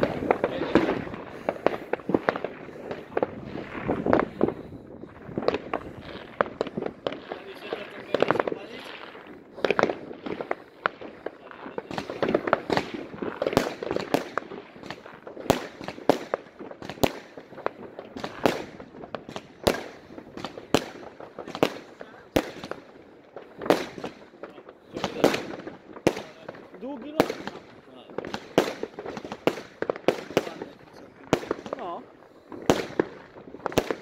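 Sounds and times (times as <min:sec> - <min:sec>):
distant firework bangs: 0:00.0 - 0:34.0
firecracker crackle and rumble: 0:00.0 - 0:34.0.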